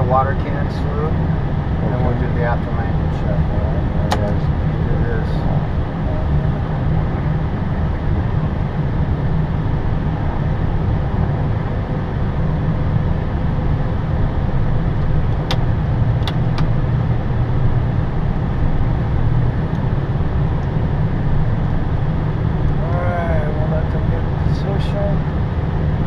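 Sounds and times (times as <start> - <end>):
airliner cockpit rumble: 0.0 - 26.0.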